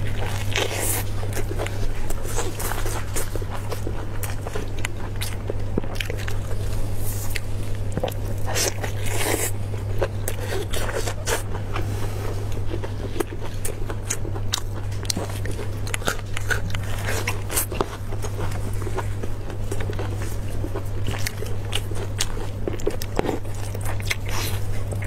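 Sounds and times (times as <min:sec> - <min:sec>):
wet chewing and biting: 0:00.0 - 0:25.0.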